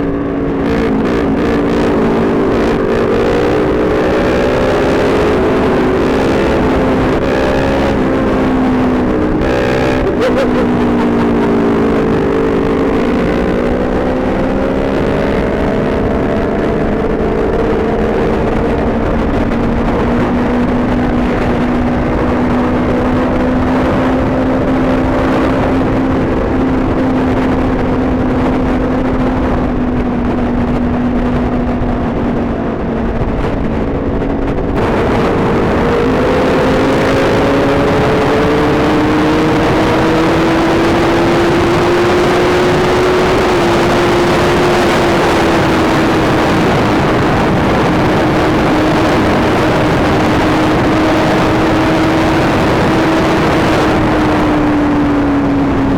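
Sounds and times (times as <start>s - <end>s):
motorcycle engine cruising: 0.0s - 55.9s
wind rush: 0.0s - 55.9s.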